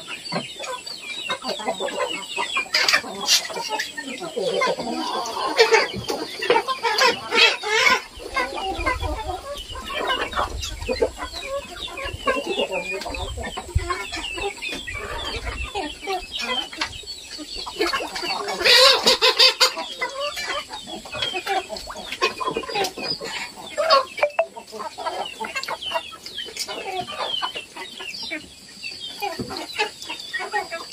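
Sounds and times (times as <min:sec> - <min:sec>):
chickens clucking and cheeping: 0:00.0 - 0:30.9.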